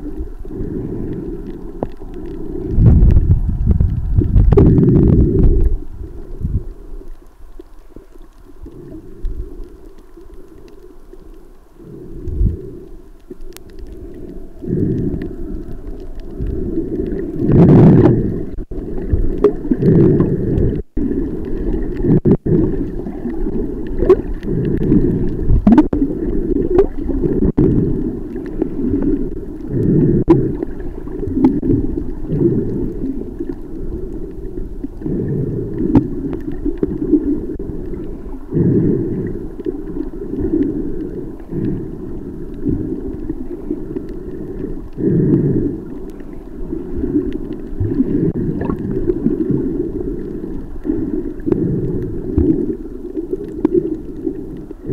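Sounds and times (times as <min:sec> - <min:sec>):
muffled underwater rumbling: 0:00.0 - 0:54.9.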